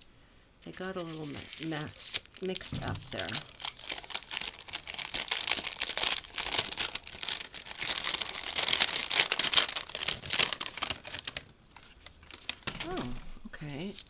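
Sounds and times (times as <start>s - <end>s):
packaging crinkling: 1.0s - 13.0s.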